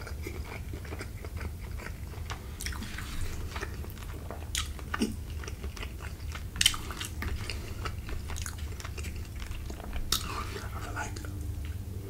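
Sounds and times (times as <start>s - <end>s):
chewing with wet mouth smacks: 0.0s - 11.9s.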